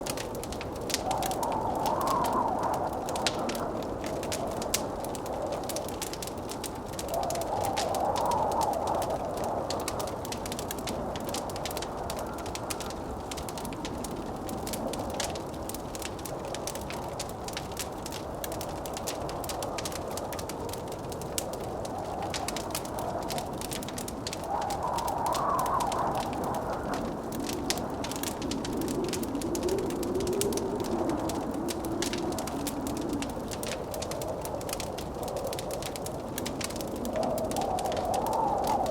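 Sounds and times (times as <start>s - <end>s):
blizzard wind rushing: 0.0s - 38.9s
wood fire crackling and popping: 0.0s - 38.9s.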